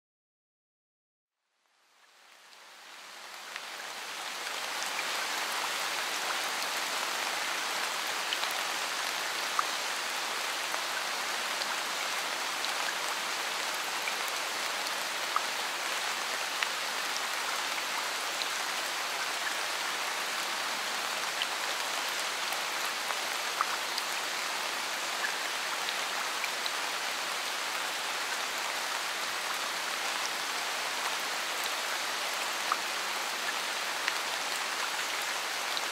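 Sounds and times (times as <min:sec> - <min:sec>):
steady rain: 0:01.5 - 0:35.9.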